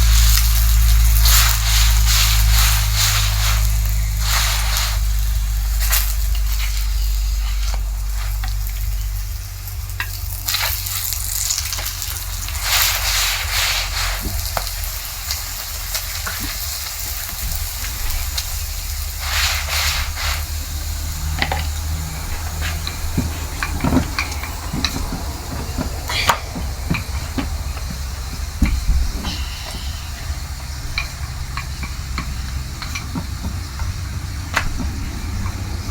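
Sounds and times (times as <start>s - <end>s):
flatbread sizzling on a pan: 0.0s - 35.9s
steady low rumble: 0.0s - 35.9s.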